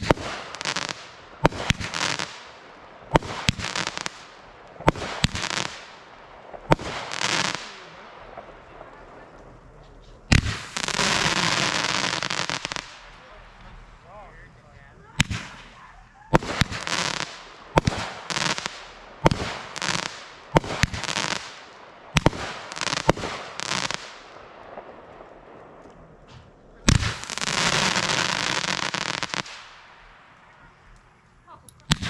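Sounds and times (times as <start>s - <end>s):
fireworks cake firing cracks: 0.0s - 14.3s, 15.0s - 32.0s.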